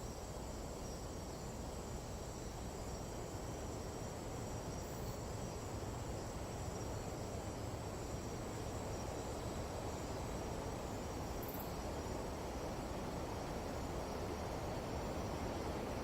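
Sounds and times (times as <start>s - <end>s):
insects trilling: 0.0s - 16.0s
low rush of wind: 0.0s - 16.0s.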